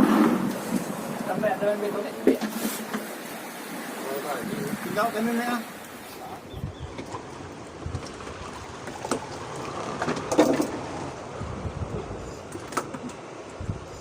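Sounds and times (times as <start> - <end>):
water washing around boat: 0.0 - 14.0
wind: 0.0 - 14.0.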